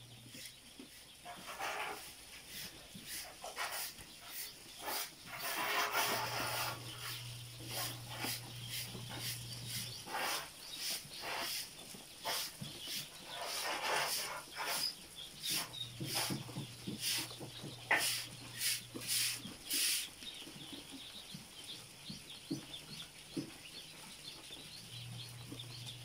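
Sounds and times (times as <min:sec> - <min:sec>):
ducklings peeping: 0:00.0 - 0:26.0.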